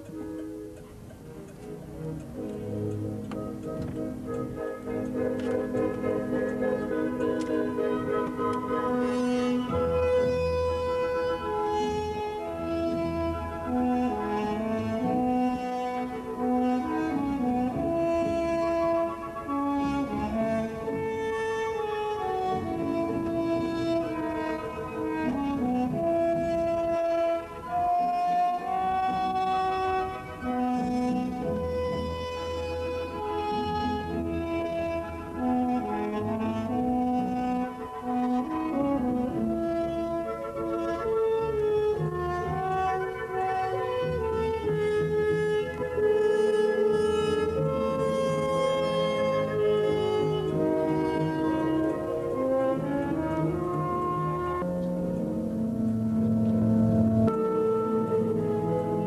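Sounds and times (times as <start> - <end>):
orchestral music with horns and strings: 0.0 - 59.0.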